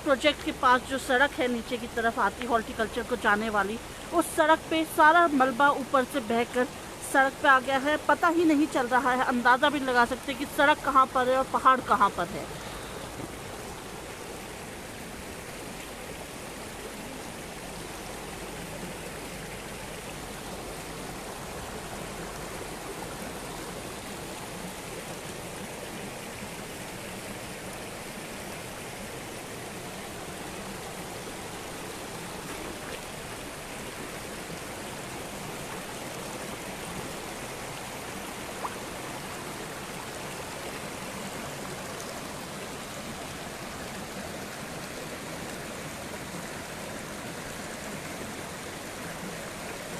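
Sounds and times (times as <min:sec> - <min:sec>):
floodwater rushing down a road: 0:00.0 - 0:49.9.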